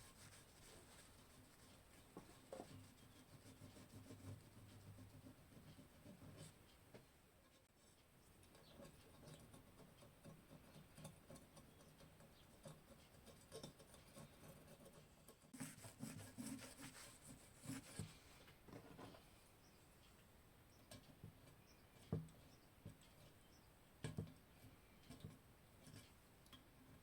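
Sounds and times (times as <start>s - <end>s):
faint scratching and tapping: 0.0s - 27.0s.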